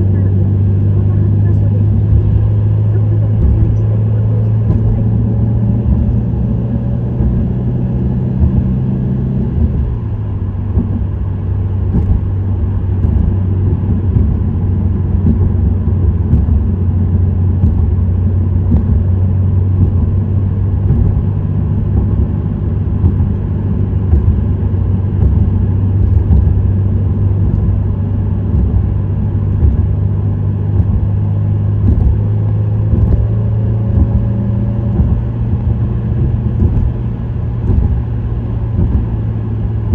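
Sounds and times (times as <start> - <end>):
car engine droning: 0.0 - 39.9
tyre and road noise: 0.0 - 39.9.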